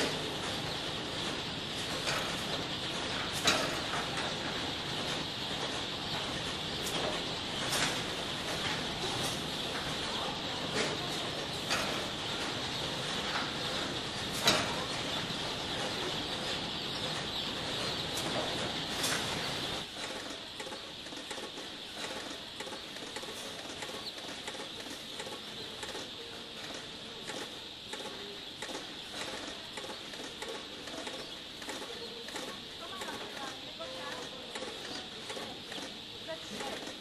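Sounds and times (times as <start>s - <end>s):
chicks peeping: 0.0s - 37.0s
conveyor machinery hum: 0.0s - 37.0s.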